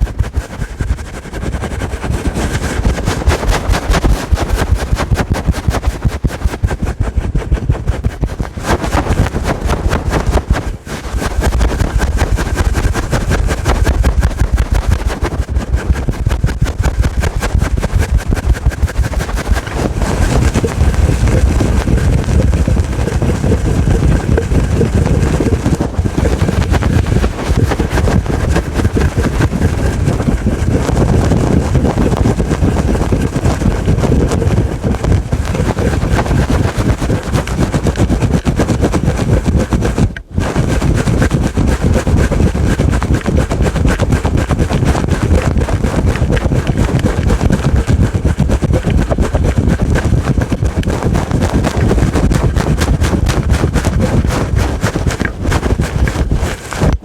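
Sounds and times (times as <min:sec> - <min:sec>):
fingernails scratching furry windscreen: 0:00.0 - 0:57.0.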